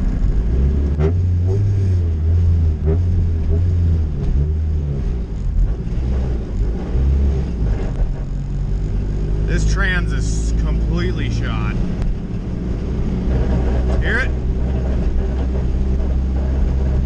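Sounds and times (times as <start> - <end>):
car drivetrain rumble: 0.0 - 17.0.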